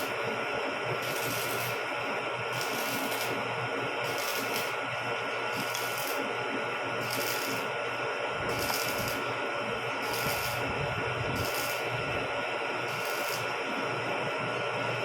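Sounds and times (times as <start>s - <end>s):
machine tool whine: 0.0s - 15.0s.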